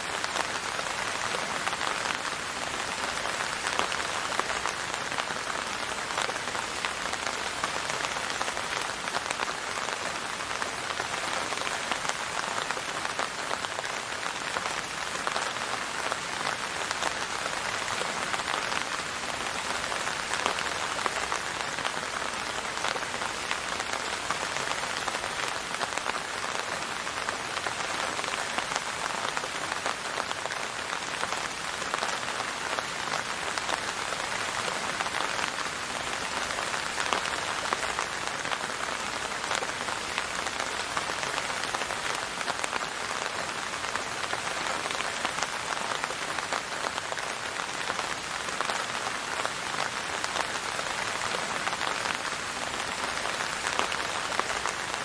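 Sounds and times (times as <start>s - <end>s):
rain on a surface: 0.0s - 55.0s.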